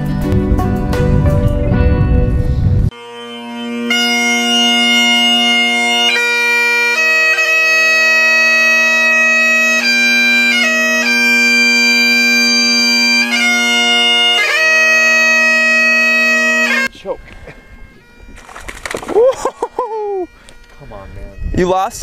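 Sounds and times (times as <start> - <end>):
bagpipes playing slow tune: 2.9 - 21.6.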